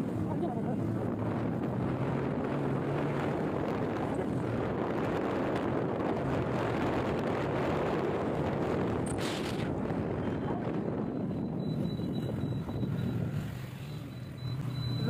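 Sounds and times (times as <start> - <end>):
wind rushing over microphone: 0.0 - 13.6.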